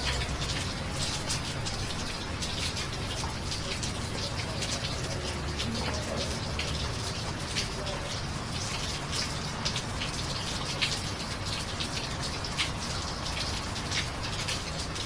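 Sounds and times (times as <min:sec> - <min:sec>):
drips striking hard surfaces: 0:00.0 - 0:15.0
steady rain: 0:00.0 - 0:15.0.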